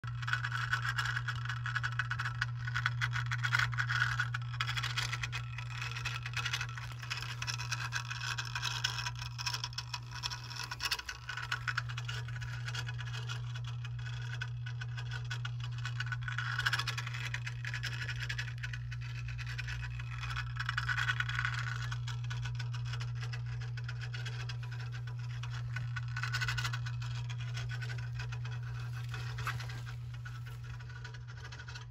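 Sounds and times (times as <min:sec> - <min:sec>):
circulation pump motor hum: 0:00.0 - 0:31.9
rattling pump bearings: 0:00.1 - 0:31.9.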